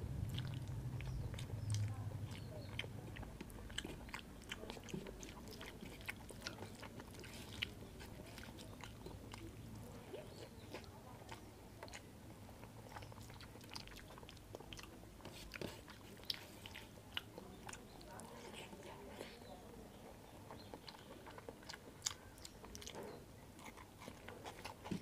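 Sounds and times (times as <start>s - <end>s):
person chewing food: 0.0s - 25.0s
fingers squishing rice: 0.3s - 25.0s.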